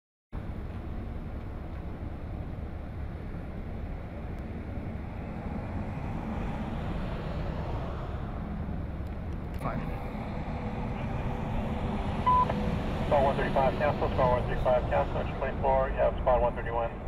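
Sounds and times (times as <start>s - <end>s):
diesel engine rumbling: 0.4s - 17.0s.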